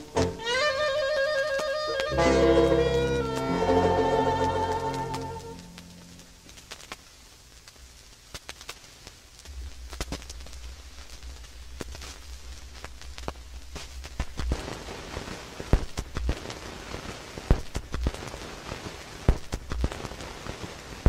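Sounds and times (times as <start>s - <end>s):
record hiss and crackle: 0.0s - 21.0s
record pop: 0.0s - 21.0s.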